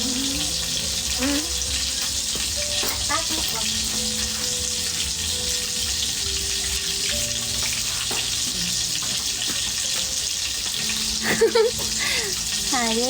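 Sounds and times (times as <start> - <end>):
food sizzling in a hot pan: 0.0 - 13.0.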